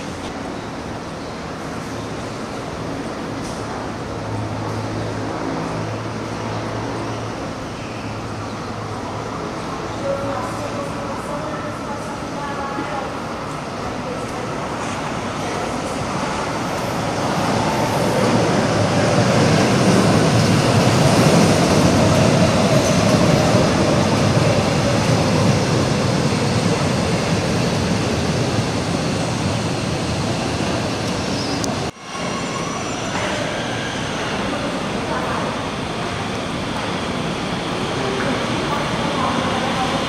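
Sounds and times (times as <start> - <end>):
electric train rumbling on rails: 0.0 - 40.0.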